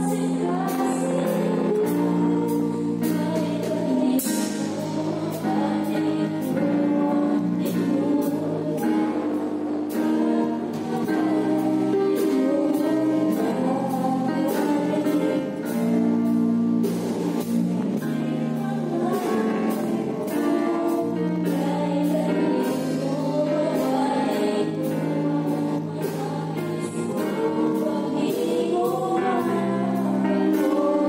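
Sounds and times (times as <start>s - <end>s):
person singing: 0.0s - 16.9s, 18.0s - 31.0s
gospel band playing: 0.0s - 31.0s
keyboard chords: 0.0s - 31.0s.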